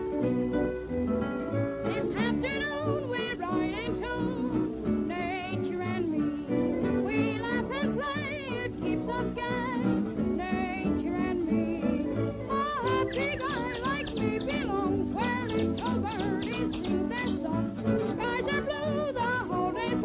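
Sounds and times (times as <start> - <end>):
old cartoon music: 0.0 - 20.0.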